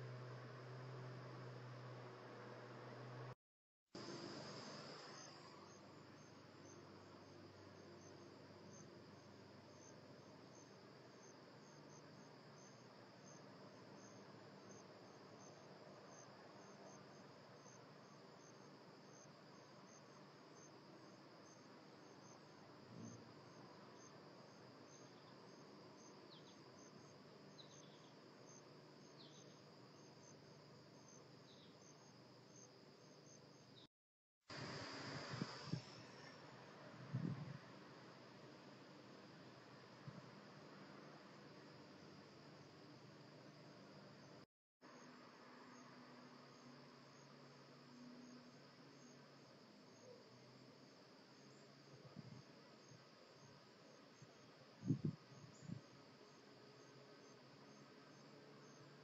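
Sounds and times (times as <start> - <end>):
crickets chirping: 0.0 - 3.4, 4.0 - 33.9, 34.5 - 59.0.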